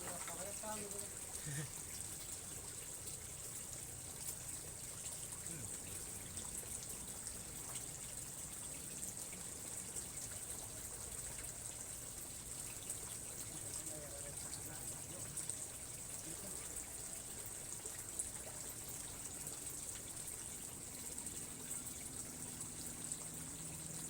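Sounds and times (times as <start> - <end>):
constant high hiss: 0.0 - 24.0
trickling running water: 0.0 - 24.0.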